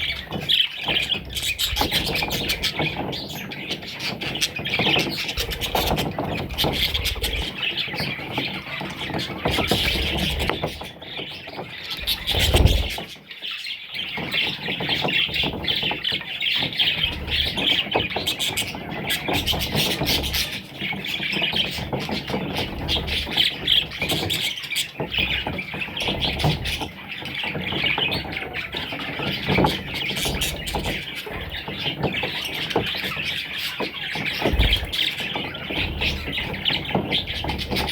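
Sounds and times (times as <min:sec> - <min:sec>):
parrot chicks chirping and squawking: 0:00.0 - 0:37.9.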